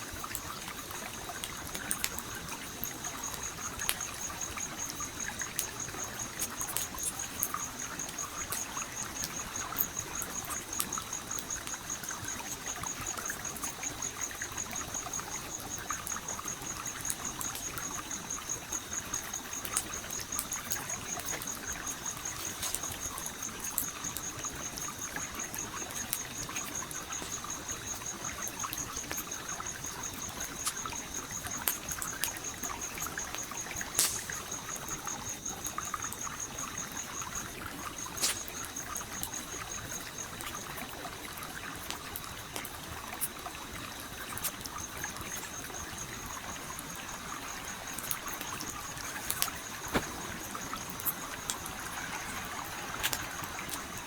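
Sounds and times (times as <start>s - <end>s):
campfire crackling and popping: 0.1s - 54.0s
stream flowing: 0.1s - 54.0s.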